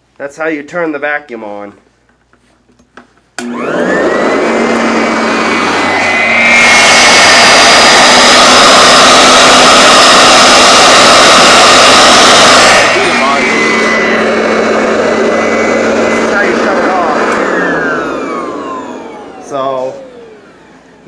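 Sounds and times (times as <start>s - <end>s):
upright vacuum cleaner whining: 3.4s - 21.0s.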